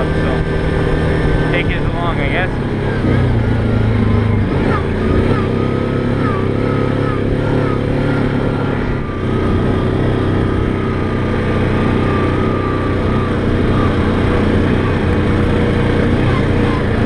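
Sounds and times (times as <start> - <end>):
atv engine running: 0.0 - 17.0
thin wavering high whine: 0.0 - 17.0.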